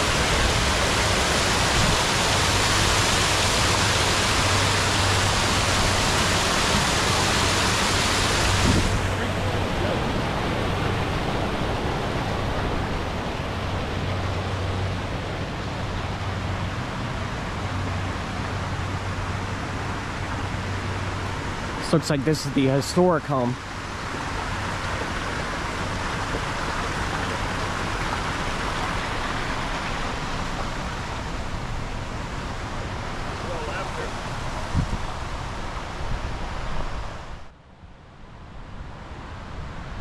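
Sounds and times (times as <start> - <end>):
flowing water rushing: 0.0 - 37.6.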